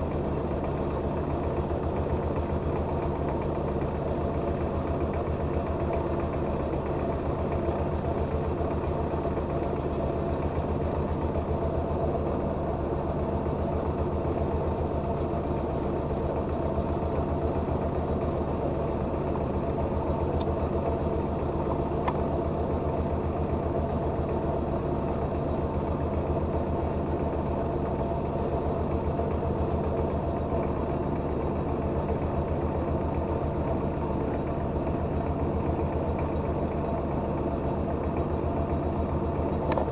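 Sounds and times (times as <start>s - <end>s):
milling machine engine running: 0.0s - 39.9s.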